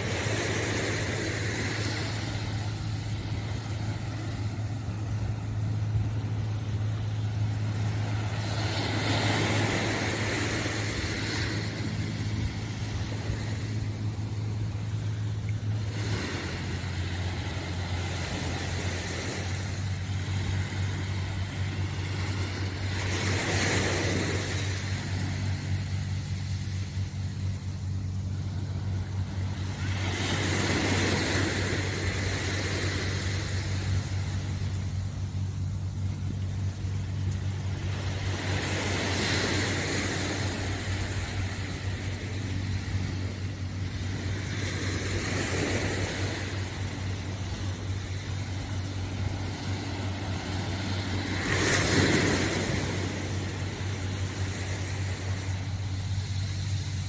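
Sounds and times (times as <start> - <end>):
small waves washing onto shore: 0.0 - 57.0
steady low hum: 0.0 - 57.0.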